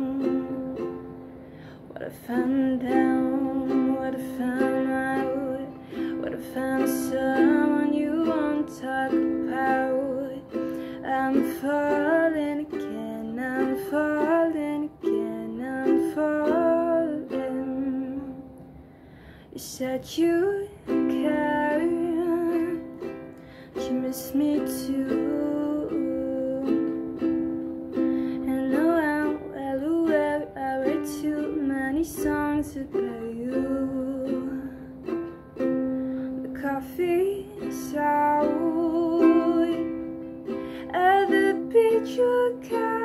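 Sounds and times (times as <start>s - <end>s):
woman singing soft ballad: 0.0s - 0.9s, 1.9s - 18.5s, 19.6s - 23.1s, 23.7s - 27.3s, 28.0s - 35.0s, 36.3s - 43.0s
ukulele strummed chords: 0.0s - 18.8s, 19.8s - 43.0s.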